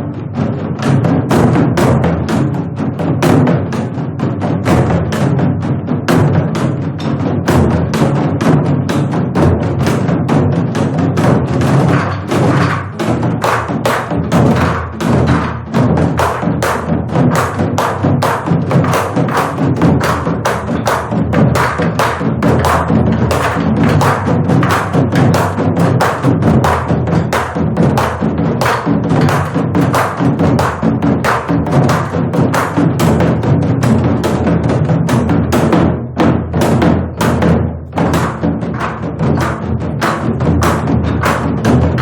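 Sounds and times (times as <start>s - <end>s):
barrel drums struck with sticks: 0.0s - 42.0s.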